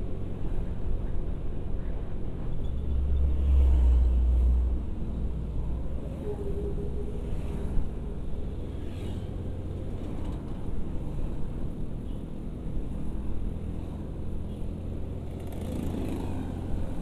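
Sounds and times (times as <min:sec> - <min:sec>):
passing traffic: 0:00.0 - 0:17.0
scooter engine and road noise: 0:00.0 - 0:17.0.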